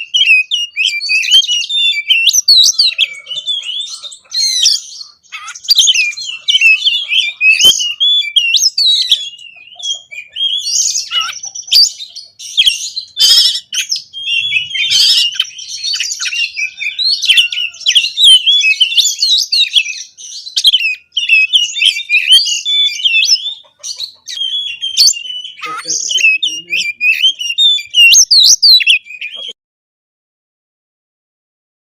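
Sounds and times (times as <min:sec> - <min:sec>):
magpie-robin singing: 0:00.0 - 0:29.6.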